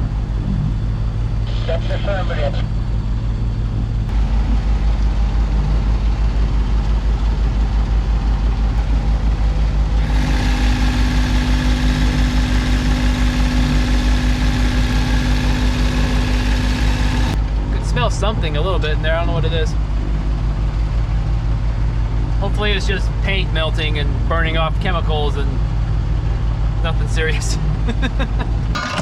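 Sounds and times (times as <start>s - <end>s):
boat engine running: 0.0s - 29.0s
steady hum: 0.0s - 29.0s.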